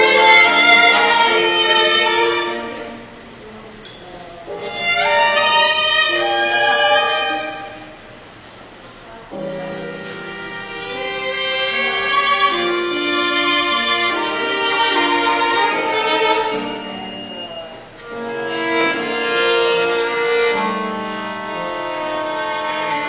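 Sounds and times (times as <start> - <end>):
bowed strings slow melody: 0.0 - 3.2, 4.5 - 8.0, 9.3 - 23.0.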